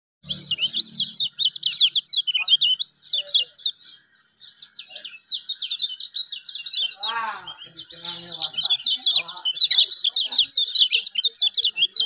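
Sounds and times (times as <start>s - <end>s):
songbird chirps and trills: 0.2s - 12.0s.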